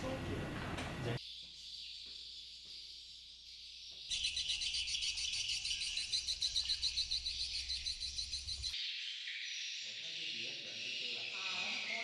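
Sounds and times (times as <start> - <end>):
swiftlets chirping and twittering: 1.2 - 12.0.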